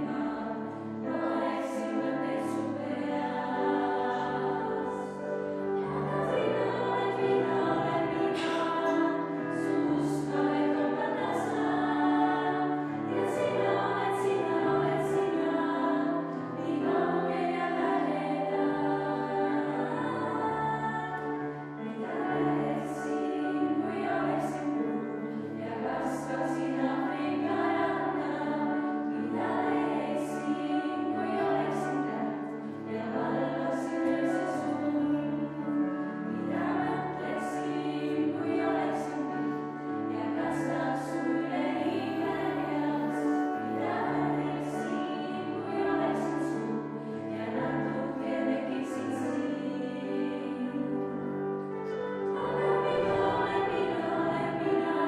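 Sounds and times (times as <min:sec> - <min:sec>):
girls' choir singing: 0:00.0 - 0:55.0.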